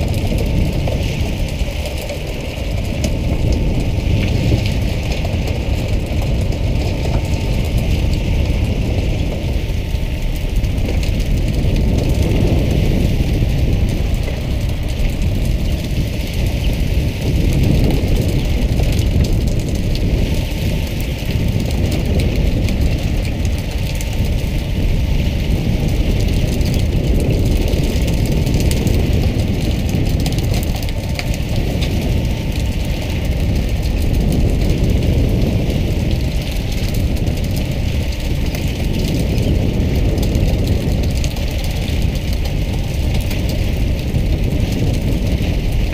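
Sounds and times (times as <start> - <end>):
boat engine running: 0.0 - 45.9
water splashing along hull: 0.0 - 45.9.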